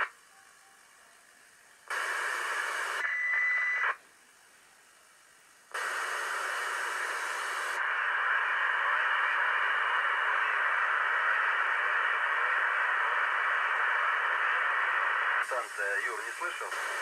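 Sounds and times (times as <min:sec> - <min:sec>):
radio static hiss: 0:00.0 - 0:00.9, 0:01.7 - 0:04.0, 0:05.7 - 0:17.0.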